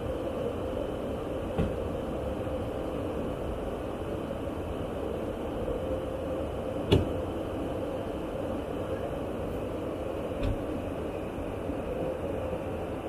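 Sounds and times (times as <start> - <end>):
aircraft engine and airflow drone: 0.0 - 13.0
steady hum: 0.0 - 13.0.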